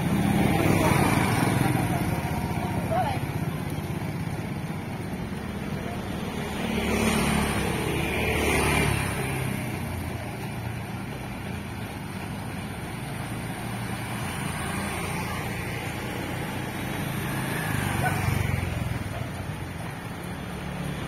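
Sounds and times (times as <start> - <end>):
motor scooter passing: 0.0 - 21.0
steady scooter engine hum: 0.0 - 21.0.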